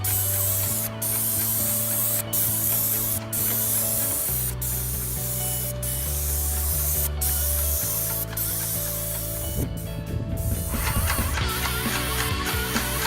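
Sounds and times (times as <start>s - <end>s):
paint sprayer hissing: 0.0s - 13.0s.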